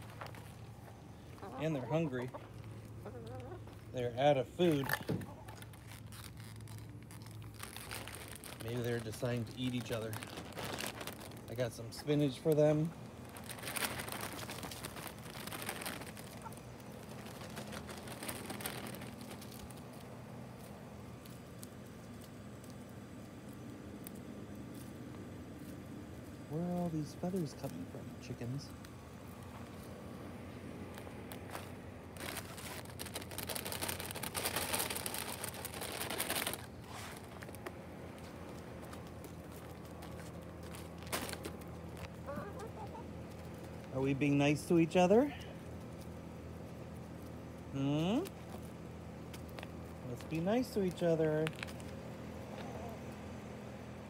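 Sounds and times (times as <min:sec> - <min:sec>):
hens pecking leaves on dirt: 0:00.0 - 0:54.0.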